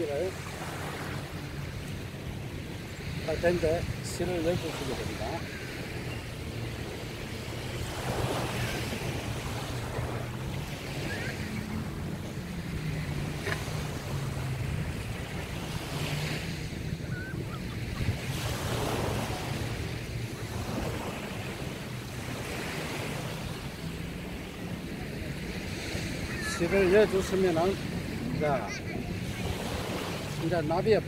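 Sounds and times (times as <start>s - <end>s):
wind on microphone: 0.0s - 30.4s
small waves breaking on sand: 0.0s - 31.0s.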